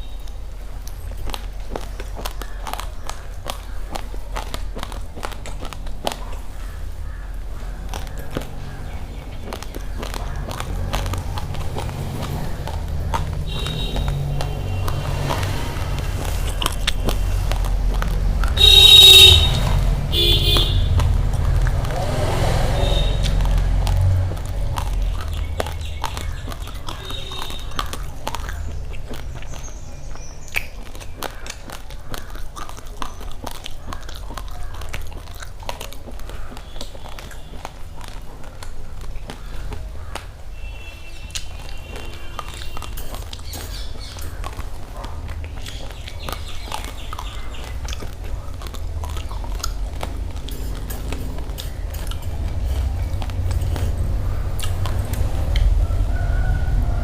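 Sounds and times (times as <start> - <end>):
chewing uncooked rice: 0.0 - 18.6, 19.4 - 56.9.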